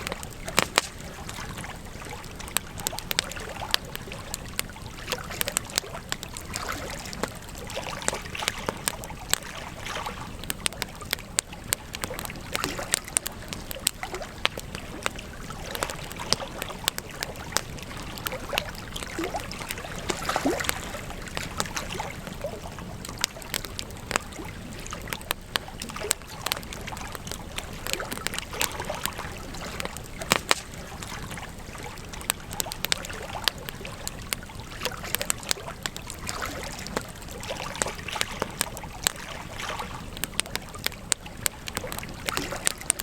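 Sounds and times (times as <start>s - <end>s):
campfire crackling: 0.0s - 43.0s.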